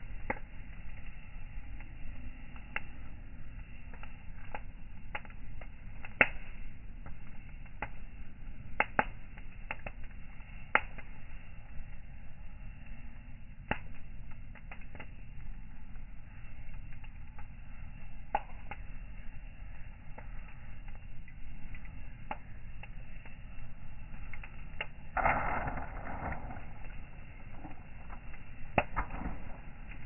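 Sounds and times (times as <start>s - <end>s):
campfire crackling and popping: 0.0s - 30.0s
steady low rumble: 0.0s - 30.0s.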